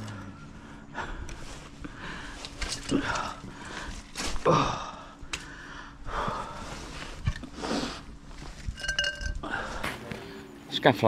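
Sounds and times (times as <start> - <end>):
man breathing hard: 0.0 - 8.2, 9.4 - 10.6.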